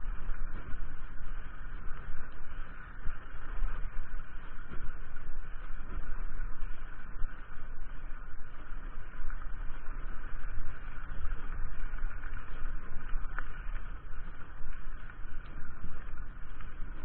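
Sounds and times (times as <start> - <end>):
wind roar on microphone: 0.0 - 17.0.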